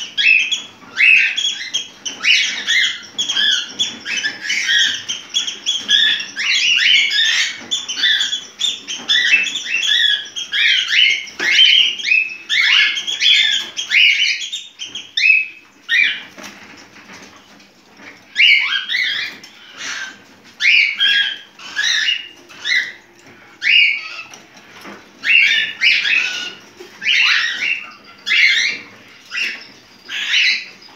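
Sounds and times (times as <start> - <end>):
cockatiel chirping: 0.0 - 16.5, 18.3 - 30.9.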